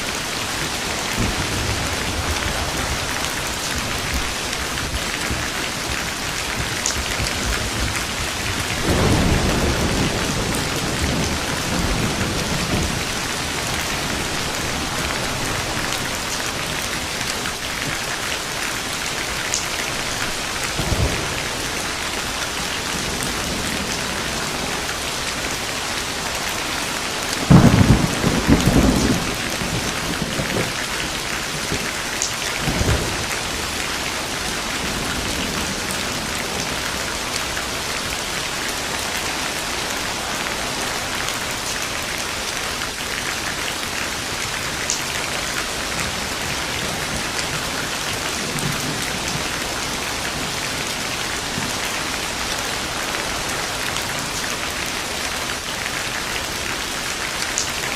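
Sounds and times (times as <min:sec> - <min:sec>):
thunder clap and rumble: 0:00.0 - 0:55.7
heavy rain falling: 0:00.0 - 0:57.9.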